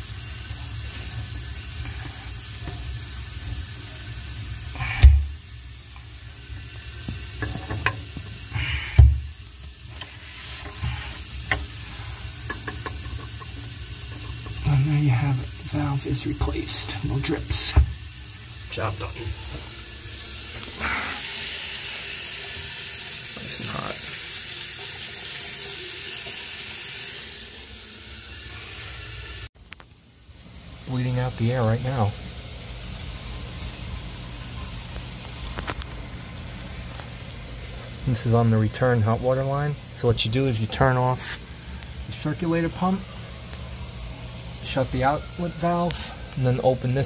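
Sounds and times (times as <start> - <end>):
faucet water running into sink: 0.0 - 29.5, 30.3 - 47.0.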